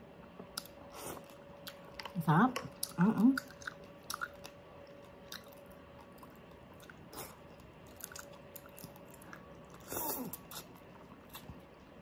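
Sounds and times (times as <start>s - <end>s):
faint steady hum: 0.0s - 12.0s
quiet chewing of food: 0.2s - 12.0s.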